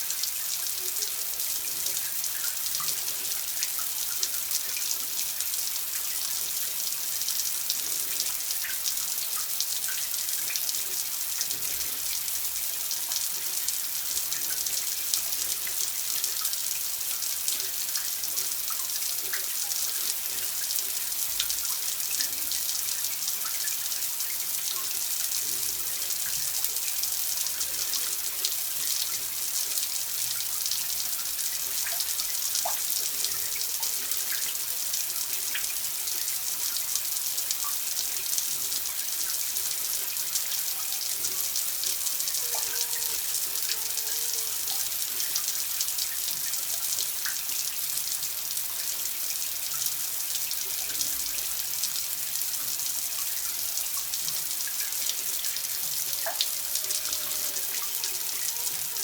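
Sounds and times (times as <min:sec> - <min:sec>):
water drips and trickles: 0:00.0 - 0:59.0
water running: 0:00.0 - 0:59.0.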